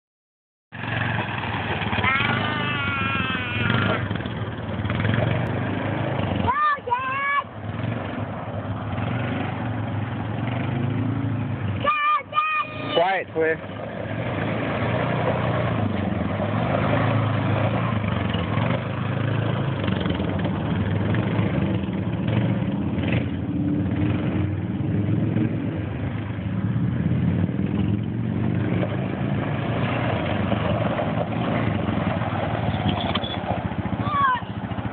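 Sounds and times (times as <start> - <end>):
atv engine running: 0.8 - 34.9.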